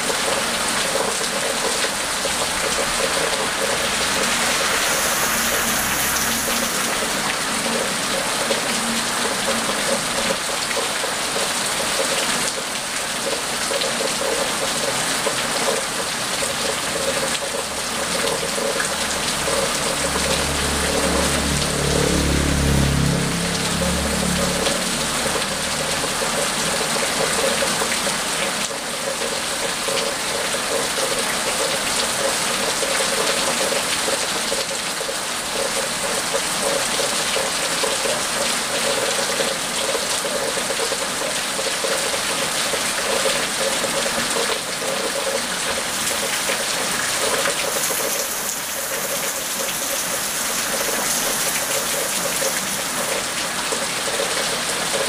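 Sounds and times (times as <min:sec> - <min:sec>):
rain on wet pavement: 0:00.0 - 0:55.0.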